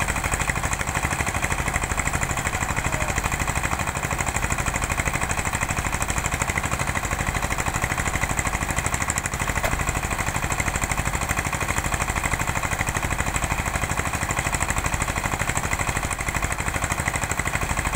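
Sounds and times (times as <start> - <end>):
engine chugging steadily: 0.0 - 17.9.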